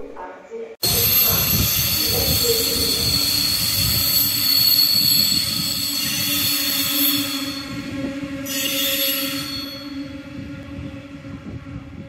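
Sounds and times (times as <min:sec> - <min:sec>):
train wheels squealing on rails: 0:00.8 - 0:10.7
train low rumble: 0:00.8 - 0:12.0.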